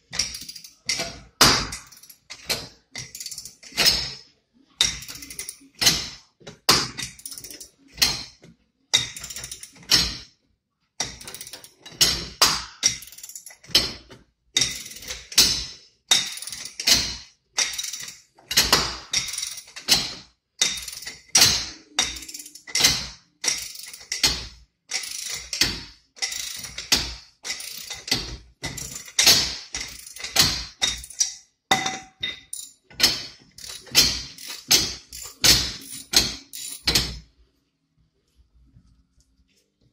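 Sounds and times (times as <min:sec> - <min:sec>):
ratchet wrench clicking: 0:00.1 - 0:01.1, 0:01.7 - 0:04.1, 0:04.8 - 0:06.2, 0:07.0 - 0:08.3, 0:09.0 - 0:10.2, 0:11.0 - 0:31.4, 0:32.5 - 0:37.1.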